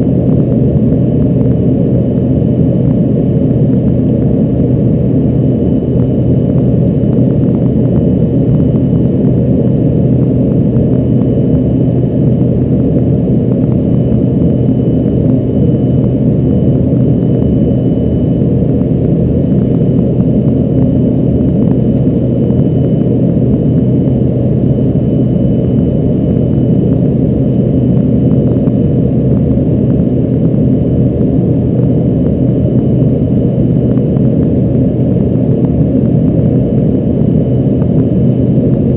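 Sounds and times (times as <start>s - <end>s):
faint thin whine: 0.0s - 38.9s
jet cabin engine roar: 0.0s - 38.9s
low steady hum: 0.0s - 38.9s.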